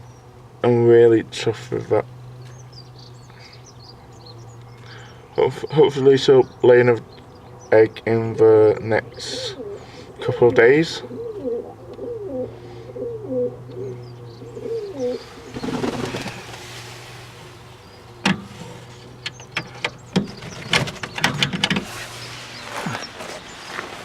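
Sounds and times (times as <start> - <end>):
steady low hum: 0.0 - 24.0
pigeons cooing: 2.2 - 24.0.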